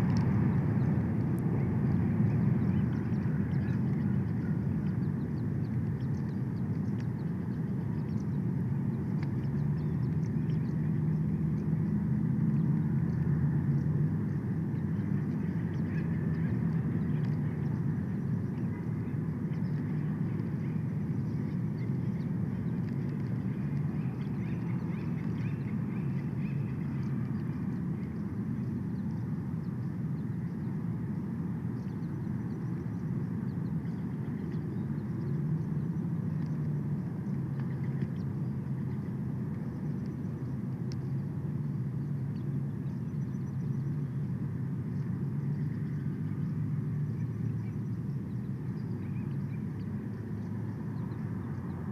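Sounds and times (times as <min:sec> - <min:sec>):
faint bird calls: 0:00.0 - 0:11.9, 0:12.5 - 0:51.9
low outdoor rumble: 0:00.0 - 0:51.9.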